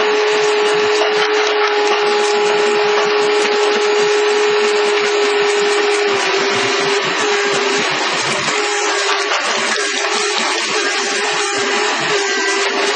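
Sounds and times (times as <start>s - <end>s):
excavator machine noise: 0.0s - 12.9s
hydraulic pile breaker whine: 0.0s - 12.9s.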